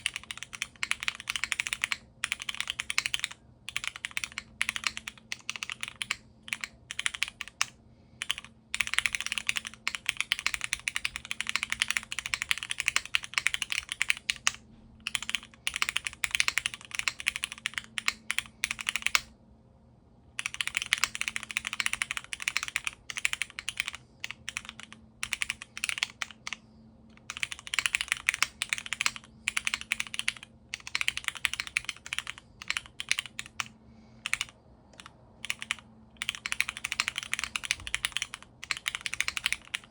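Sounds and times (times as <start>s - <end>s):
mechanical keyboard typing: 0.0s - 19.3s, 20.4s - 39.9s.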